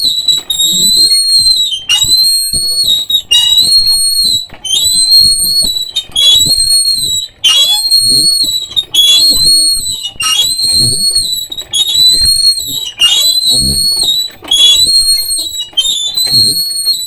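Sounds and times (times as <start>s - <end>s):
shrill whistle-like tone: 0.0s - 17.0s.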